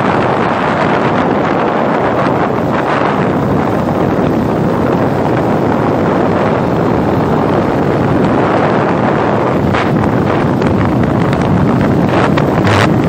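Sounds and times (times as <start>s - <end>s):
tyre noise on dirt road: 0.0s - 13.0s
wind rush on microphone: 0.0s - 13.0s.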